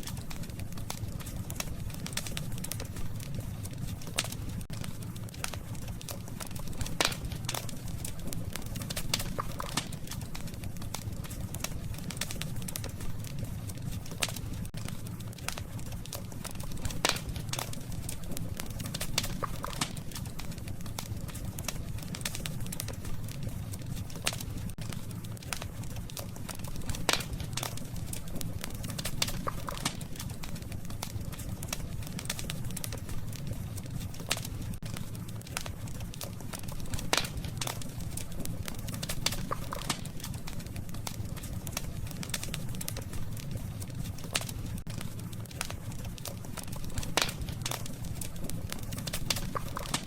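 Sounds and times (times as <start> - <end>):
campfire flame rumble: 0.0 - 50.0
wood popping and snapping: 0.0 - 50.0.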